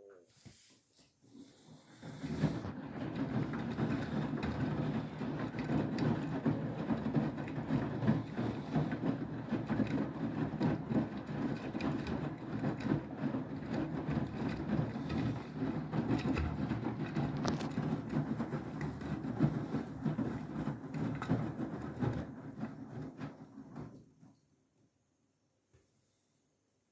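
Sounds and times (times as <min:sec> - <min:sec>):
washing machine rumbling: 0:01.5 - 0:24.0.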